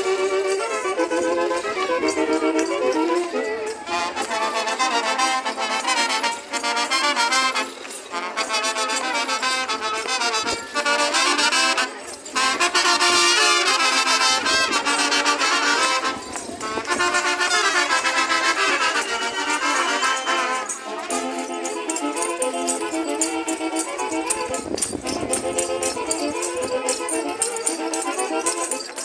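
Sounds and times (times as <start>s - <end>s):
brass folk dance music: 0.0s - 29.0s.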